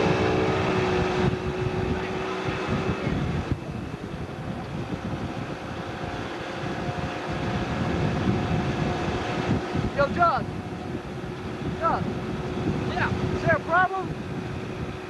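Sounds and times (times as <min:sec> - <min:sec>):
motorboat engine: 0:00.0 - 0:15.0
wind buffeting microphone: 0:00.0 - 0:15.0.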